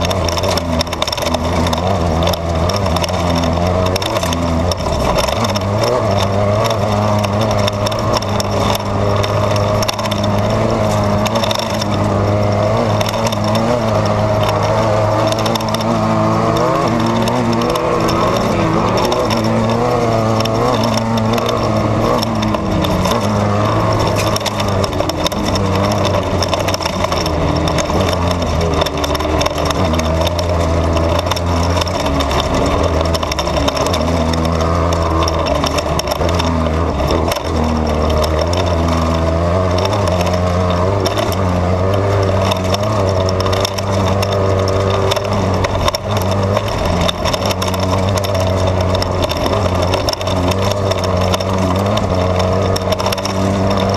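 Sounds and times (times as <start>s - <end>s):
car rattling over rough ground: 0.0s - 53.9s
race car engine revving: 0.0s - 53.9s.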